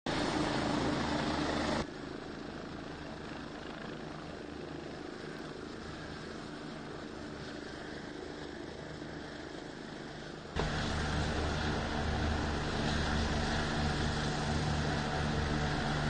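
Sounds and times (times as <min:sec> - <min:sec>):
helicopter hovering: 0:00.1 - 0:16.0.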